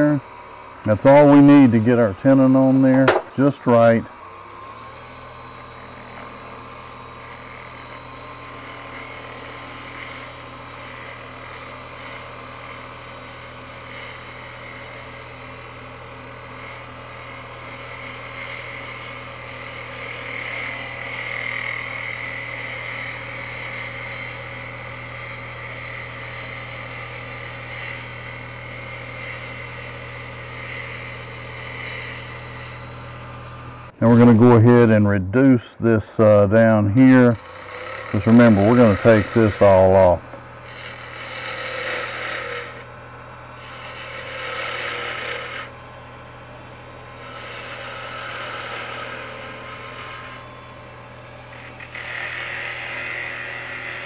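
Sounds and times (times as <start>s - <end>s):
chisel scraping spinning wood: 0.0s - 54.0s
wood lathe humming: 0.0s - 54.0s.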